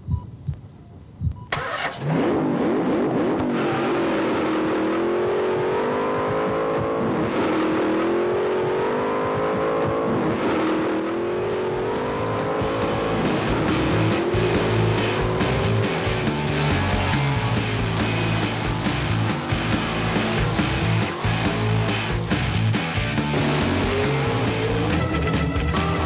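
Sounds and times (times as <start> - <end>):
car engine revving: 1.6 - 26.0.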